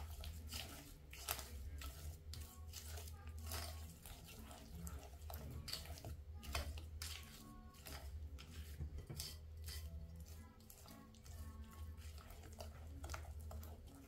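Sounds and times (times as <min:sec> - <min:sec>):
spoon stirring batter in bowl: 0:00.0 - 0:14.0.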